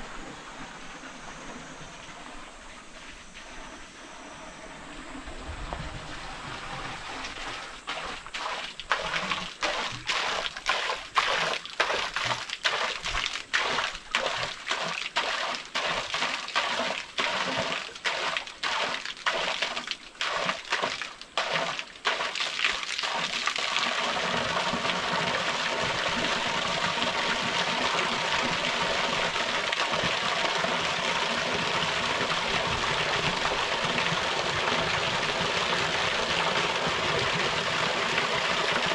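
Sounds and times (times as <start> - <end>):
small waterfall splashing: 6.1 - 38.9.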